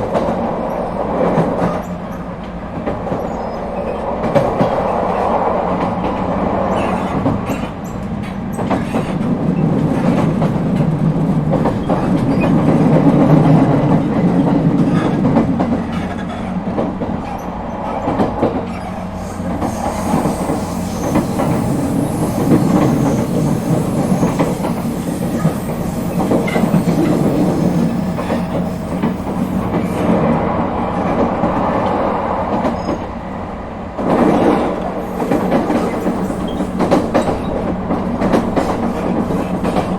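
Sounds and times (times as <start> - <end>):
clacks over rail joints: 0.0 - 33.1, 34.0 - 39.9
train wheels rumbling on track: 0.0 - 39.9.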